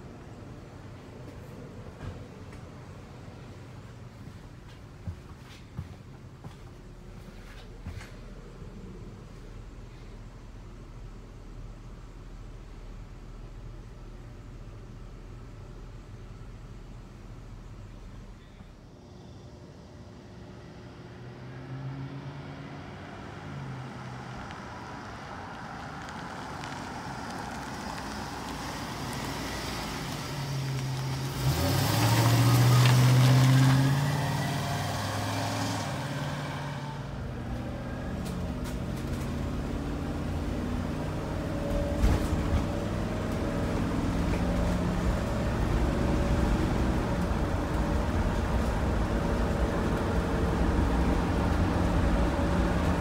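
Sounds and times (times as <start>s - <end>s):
bus engine and tyre noise: 0.0s - 53.0s
engine and road rumble in cab: 0.0s - 53.0s.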